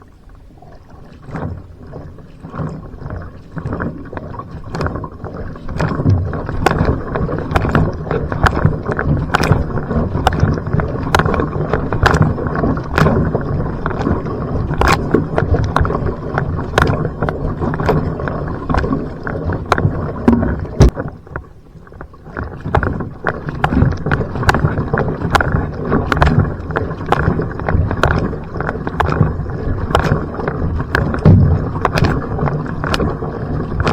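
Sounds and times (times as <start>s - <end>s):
paddle strokes splashing: 0.0s - 33.9s
rushing water: 0.0s - 33.9s.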